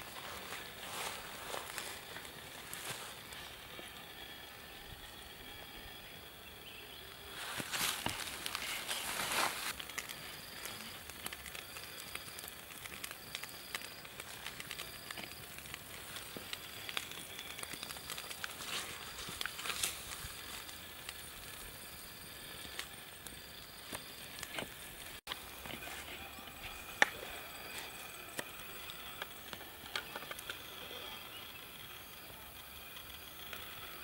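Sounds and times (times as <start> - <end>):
campfire crackling: 0.0 - 34.0
insect chirping: 0.0 - 34.0.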